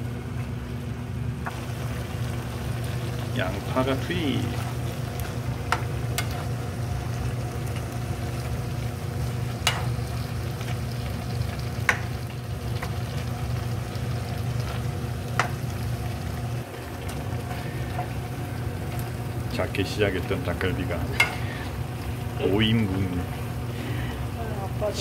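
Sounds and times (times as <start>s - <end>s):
food sizzling in frying pan: 0.0s - 25.0s
steady low hum: 0.0s - 25.0s.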